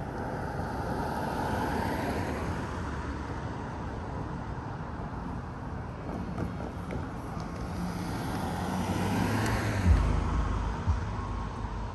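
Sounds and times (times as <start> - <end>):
rumble of passing vehicles: 0.0 - 11.9.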